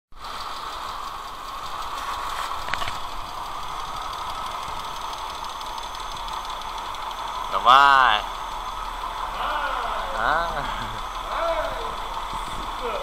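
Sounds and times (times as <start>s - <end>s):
car engine idling with ticking: 0.2s - 13.0s.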